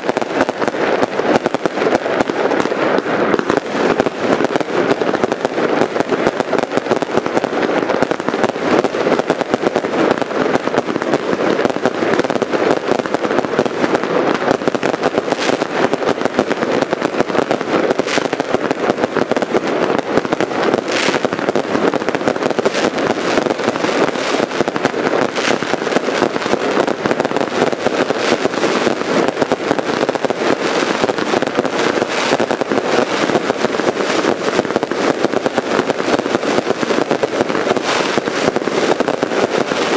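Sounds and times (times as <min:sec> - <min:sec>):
fireworks bangs and crackling: 0:00.0 - 0:39.9
loud single firework bangs: 0:00.0 - 0:39.9.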